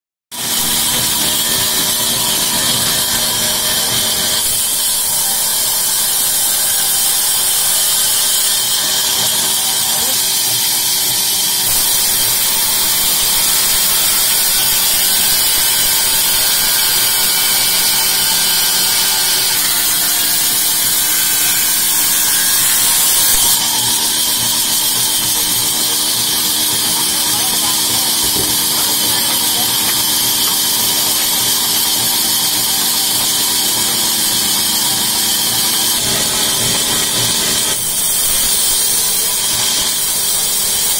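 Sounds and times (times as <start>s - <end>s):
band saw cutting log: 0.3s - 40.9s.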